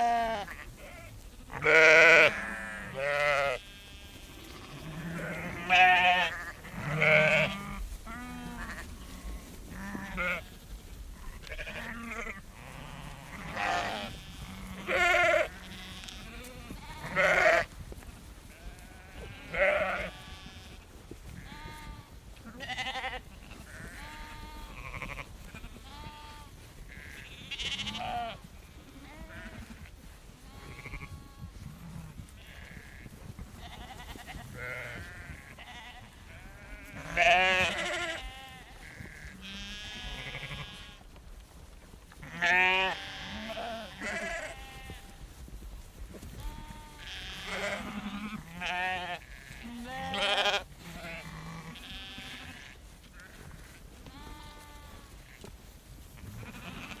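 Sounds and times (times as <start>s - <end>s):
sheep bleating: 0.0s - 10.5s, 11.2s - 17.7s, 18.5s - 20.8s, 21.4s - 41.1s, 42.2s - 45.2s, 46.4s - 55.5s, 56.2s - 57.0s.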